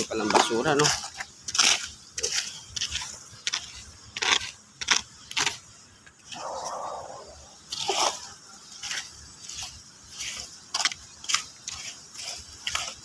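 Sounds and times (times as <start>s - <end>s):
litter picker scraping concrete: 0.0s - 5.6s, 7.7s - 13.0s.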